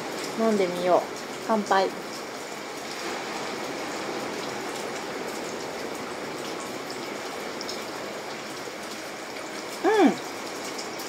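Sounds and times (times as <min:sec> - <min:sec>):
hot spring water splashing: 0:00.0 - 0:11.0.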